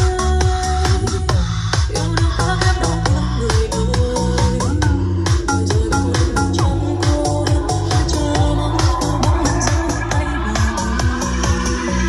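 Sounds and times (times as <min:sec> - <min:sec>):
dance music through loudspeakers: 0:00.0 - 0:12.0.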